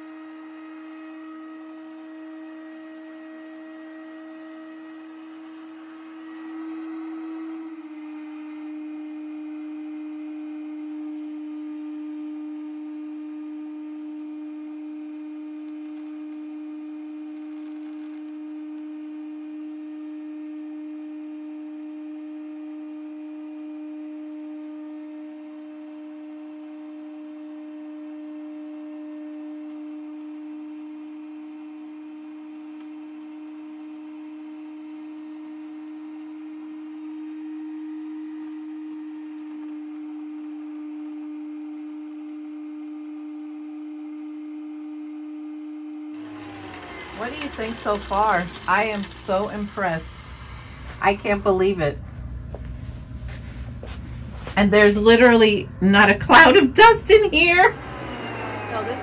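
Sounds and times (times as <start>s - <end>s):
grain mill motor humming: 0.0s - 43.0s, 46.1s - 55.0s, 56.1s - 59.0s.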